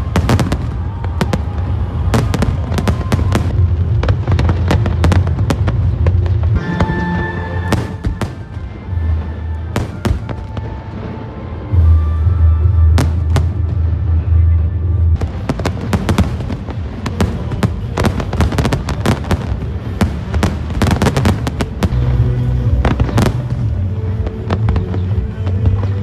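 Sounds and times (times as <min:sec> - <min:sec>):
fireworks bursting and crackling: 0:00.0 - 0:26.0
music playing: 0:02.0 - 0:26.0.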